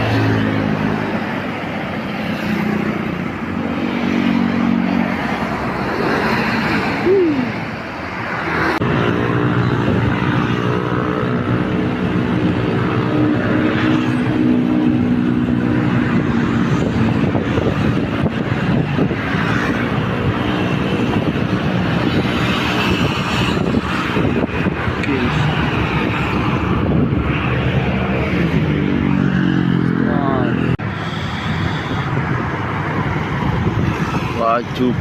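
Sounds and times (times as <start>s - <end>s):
road traffic noise: 0.0s - 35.0s
vehicle engine humming: 0.0s - 35.0s.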